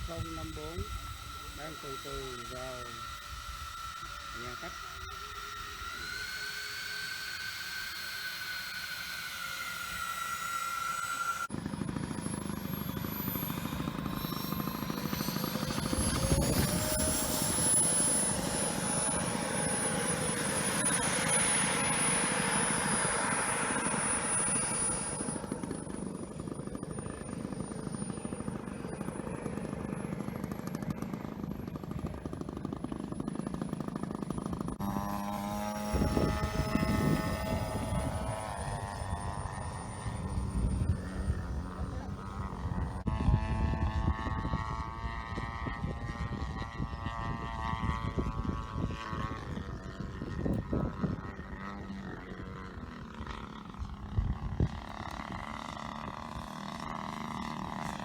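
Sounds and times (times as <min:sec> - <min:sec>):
engine-like tones: 0:00.0 - 0:58.0
model airplane motors whining: 0:00.0 - 0:58.0.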